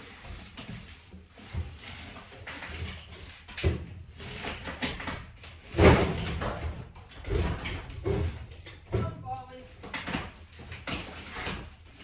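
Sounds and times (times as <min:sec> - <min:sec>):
knocks and bumps: 0:00.6 - 0:12.0.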